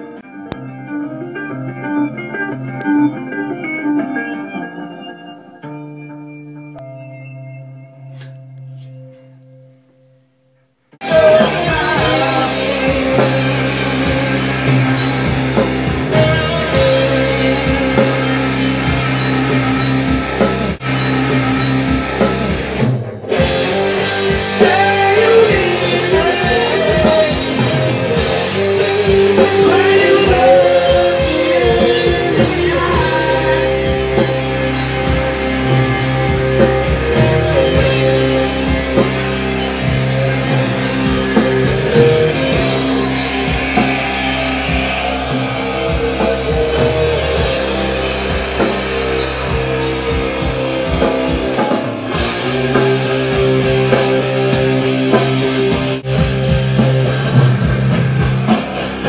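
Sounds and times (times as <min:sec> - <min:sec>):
heavy rock song: 0:11.0 - 0:59.0.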